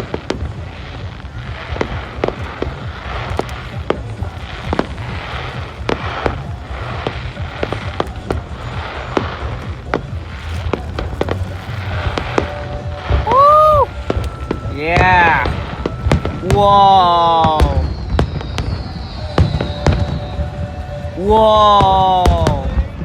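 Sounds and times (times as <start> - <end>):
fireworks bangs: 0.0 - 23.0
hiss and low rumble: 0.0 - 23.0.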